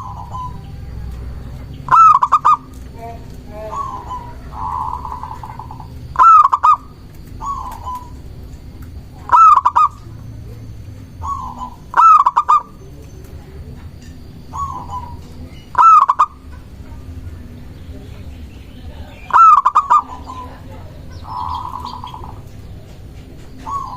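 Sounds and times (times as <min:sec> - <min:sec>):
dove cooing: 0:00.0 - 0:23.9.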